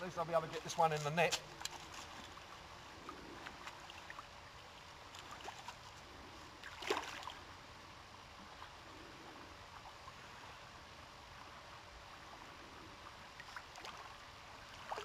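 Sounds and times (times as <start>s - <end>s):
faint flowing creek water: 0.0s - 15.0s.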